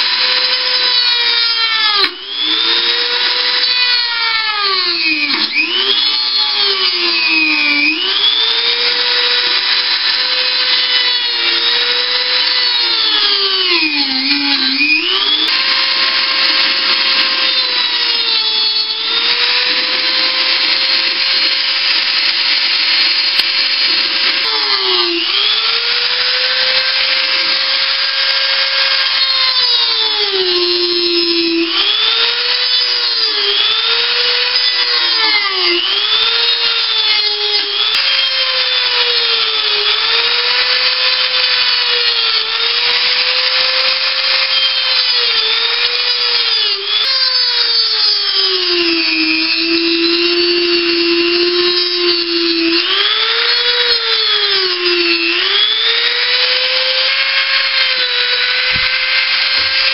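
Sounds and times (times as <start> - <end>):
rotary tool sanding: 0.0 - 59.9.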